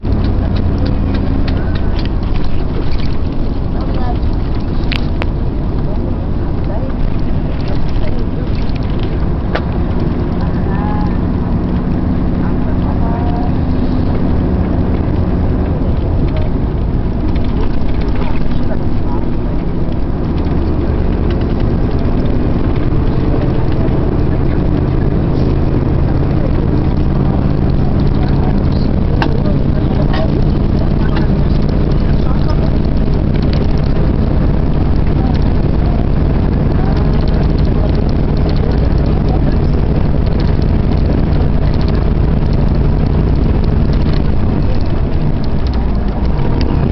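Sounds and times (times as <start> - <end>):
road noise: 0.0 - 46.9
vehicle engine drone: 0.0 - 46.9.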